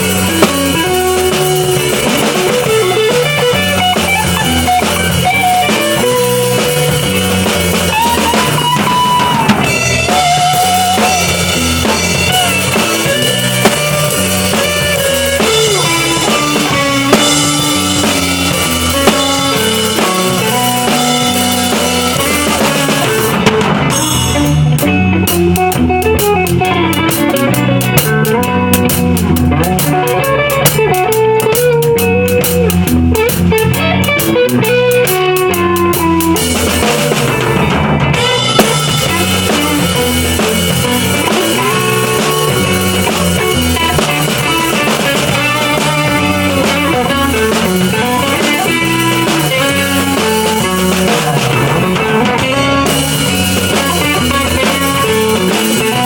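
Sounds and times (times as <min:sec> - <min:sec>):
drum kit beat: 0:00.0 - 0:56.0
guitar playing: 0:00.0 - 0:56.0.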